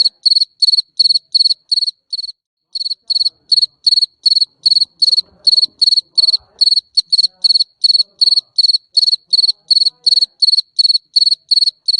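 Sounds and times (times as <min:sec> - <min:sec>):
cricket chirping: 0:00.0 - 0:11.9.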